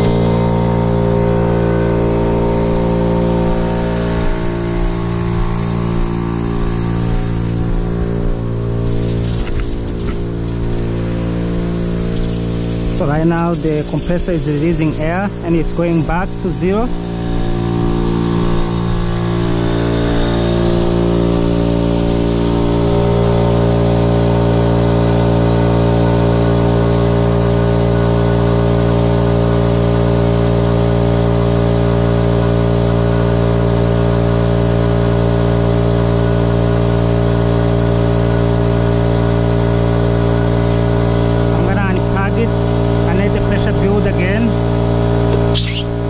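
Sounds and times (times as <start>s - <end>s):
air compressor humming: 0.0s - 46.0s.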